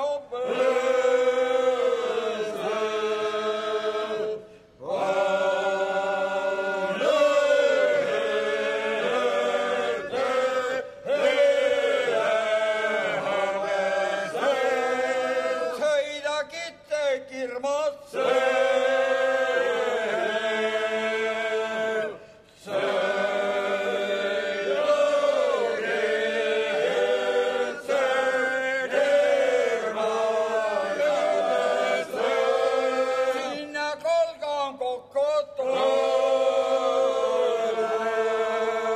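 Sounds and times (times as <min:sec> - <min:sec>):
male choir singing unaccompanied: 0:00.0 - 0:16.2, 0:18.1 - 0:34.1, 0:35.6 - 0:38.9.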